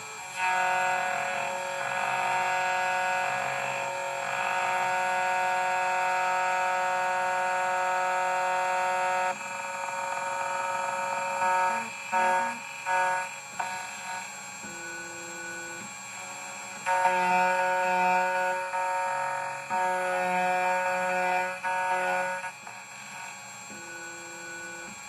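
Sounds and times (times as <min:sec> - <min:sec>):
short loud cutter bursts: 0:00.0 - 0:14.6, 0:15.6 - 0:23.5
key cutting machine whine: 0:00.0 - 0:25.0.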